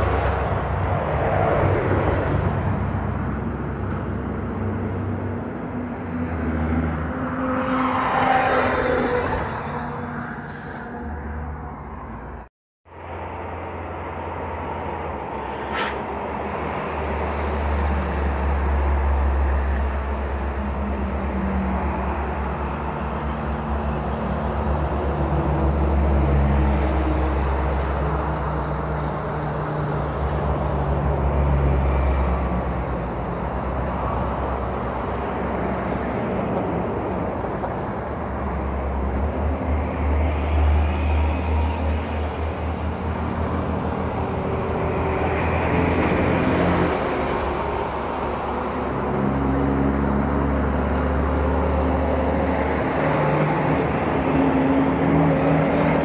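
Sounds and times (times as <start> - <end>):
truck diesel engines rumbling: 0.0 - 56.0.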